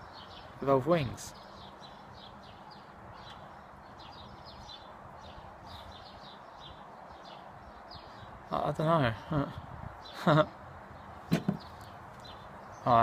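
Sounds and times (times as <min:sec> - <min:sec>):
wild birds chirping: 0:00.0 - 0:13.0.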